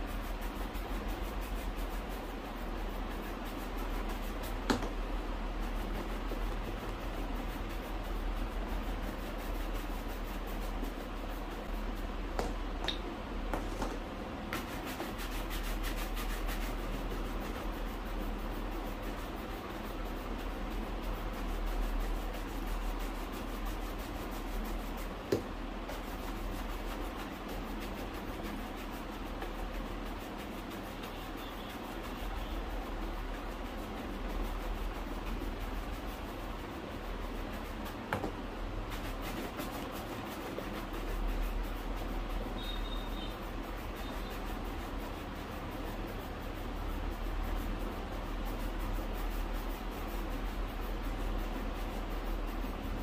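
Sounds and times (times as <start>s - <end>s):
rubbing on leather shoe: 0.0s - 12.2s, 13.6s - 53.0s.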